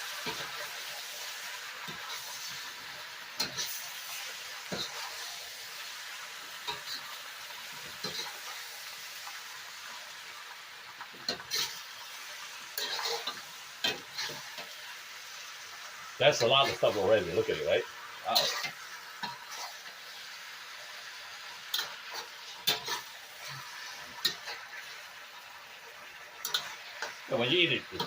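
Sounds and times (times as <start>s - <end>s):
food sizzling in a hot pan: 0.0s - 28.0s.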